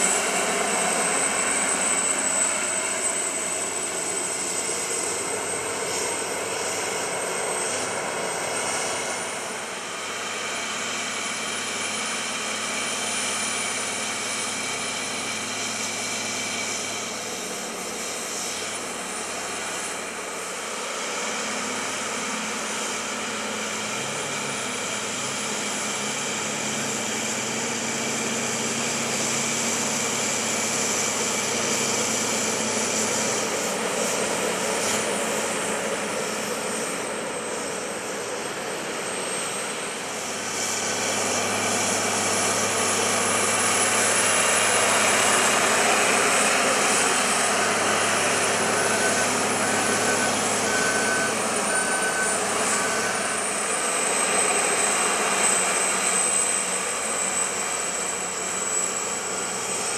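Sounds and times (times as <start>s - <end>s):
high whine: 0.0s - 59.9s
tractor diesel engine under load: 0.0s - 59.9s.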